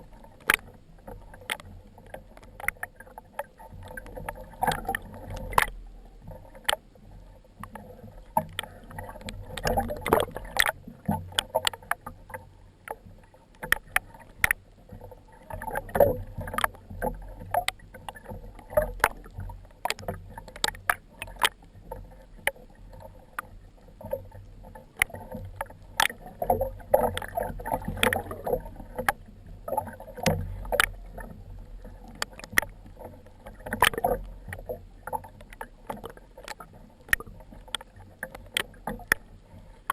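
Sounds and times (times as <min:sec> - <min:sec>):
water sloshing: 0:00.0 - 0:39.9
irregular clicks and knocks: 0:00.4 - 0:06.8, 0:07.6 - 0:14.7, 0:15.4 - 0:39.9.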